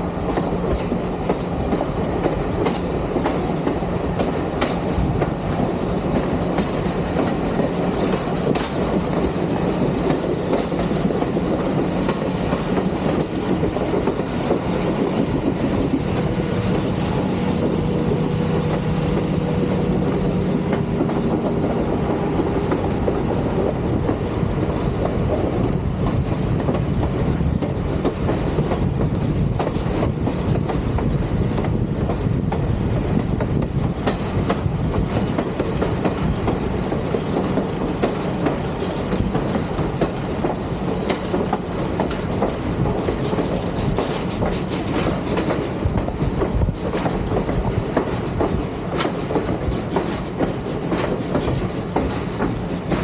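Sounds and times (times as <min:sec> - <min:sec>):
heavy rumble of rolling cars: 0:00.0 - 0:53.0
train wheels clicking over joints: 0:00.0 - 0:53.0.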